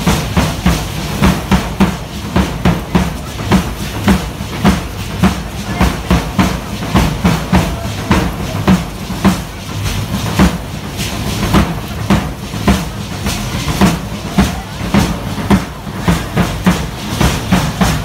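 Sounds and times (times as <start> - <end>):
drum beating steadily: 0.0 - 18.0.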